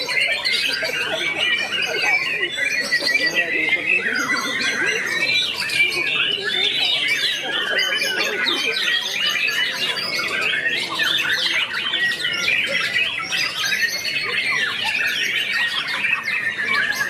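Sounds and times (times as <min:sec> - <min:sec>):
many songbirds singing: 0:00.0 - 0:17.0.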